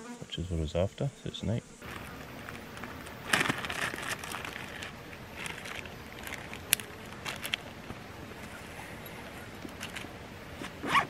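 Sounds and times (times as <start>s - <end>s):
plastic bag crinkling: 1.8s - 11.0s.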